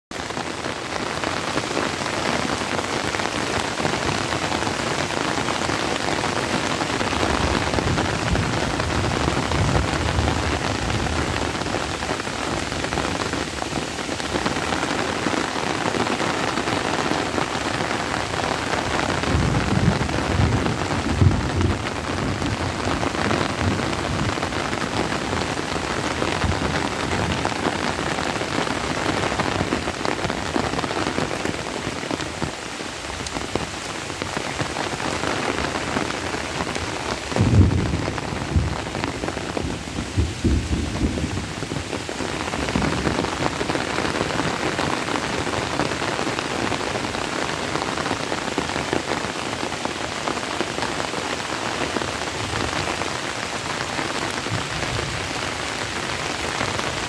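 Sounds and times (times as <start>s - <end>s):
rain on leaves and grass: 0.1s - 57.0s.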